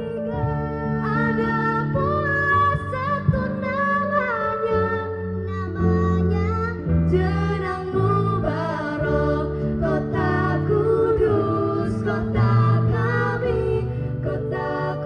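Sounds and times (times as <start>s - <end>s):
song with sung melody and bass: 0.0s - 15.0s.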